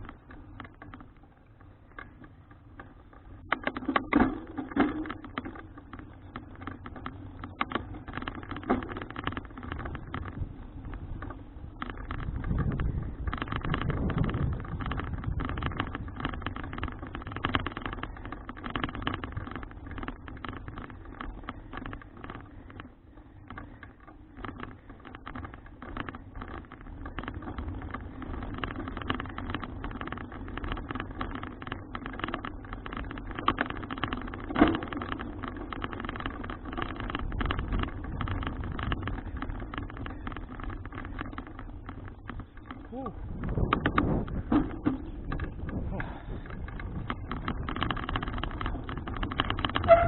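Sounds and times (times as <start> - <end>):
bicycle riding noise: 0.0 - 50.0
small rattles and clicks: 0.0 - 50.0.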